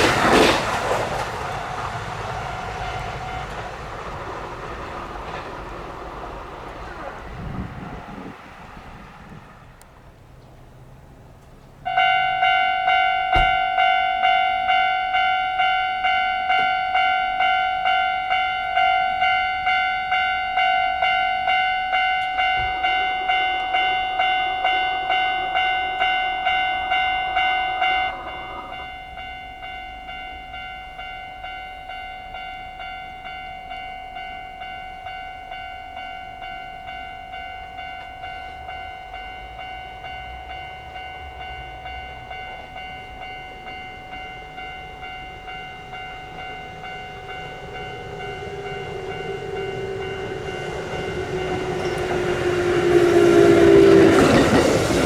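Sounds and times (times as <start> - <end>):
level crossing warning bell ringing: 0.0 - 9.9, 10.6 - 55.0.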